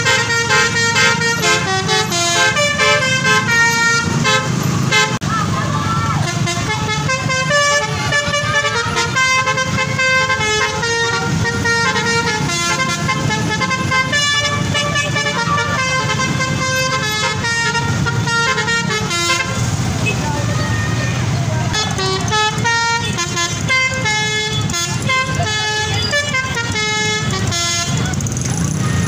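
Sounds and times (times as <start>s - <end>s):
multi-tone bus air horn tune: 0.0s - 5.2s, 6.2s - 29.0s.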